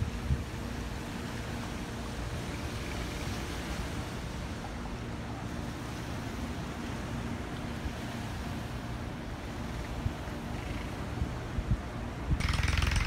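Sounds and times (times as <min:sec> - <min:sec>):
faint steady hum: 0:00.0 - 0:13.0
ocean surf washing ashore: 0:00.0 - 0:13.0.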